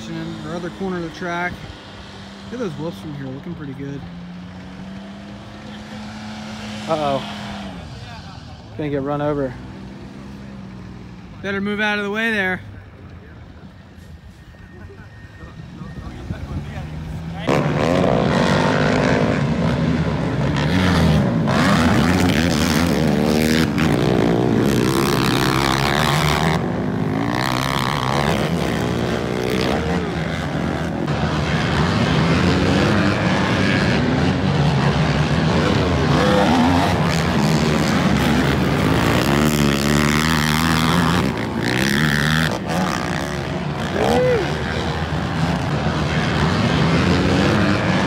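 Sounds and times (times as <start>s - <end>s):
quad engines revving past: 0.0s - 48.0s.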